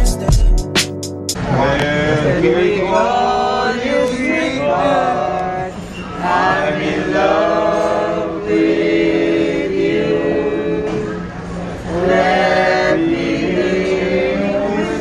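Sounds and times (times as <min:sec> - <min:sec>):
voices singing held notes: 0:01.4 - 0:15.0.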